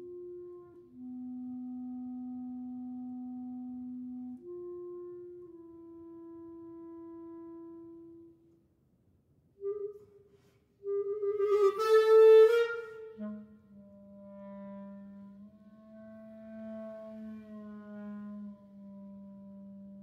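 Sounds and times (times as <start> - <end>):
solo clarinet: 0.0 - 8.7, 9.6 - 20.0.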